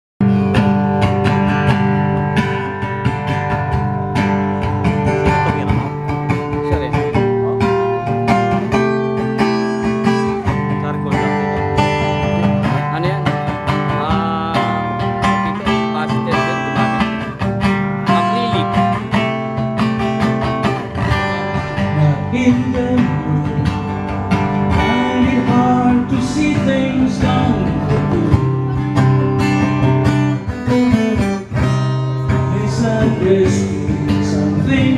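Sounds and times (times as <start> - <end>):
acoustic guitar strumming: 0.2 - 34.9.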